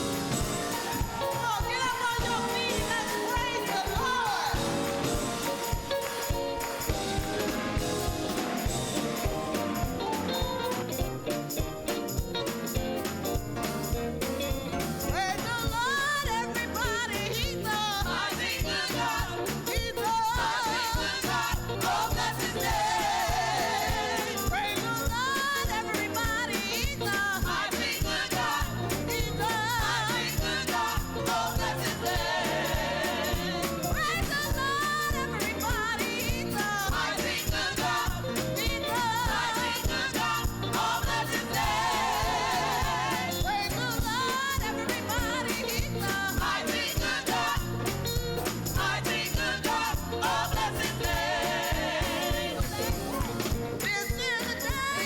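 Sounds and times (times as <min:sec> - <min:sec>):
gospel voices singing: 0:00.0 - 0:11.2, 0:14.7 - 0:55.0
band playing: 0:00.0 - 0:55.0
jingling percussion: 0:00.0 - 0:55.0.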